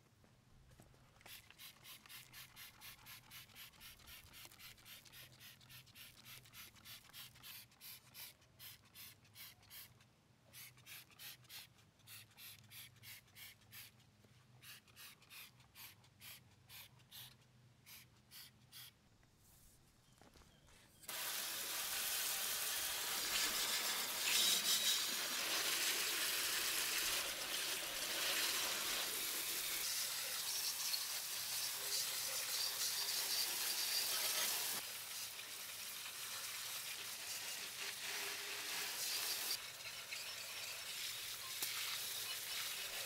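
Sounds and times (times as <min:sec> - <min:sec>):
spray bottle spritzing: 0:01.1 - 0:14.0, 0:21.1 - 0:43.0.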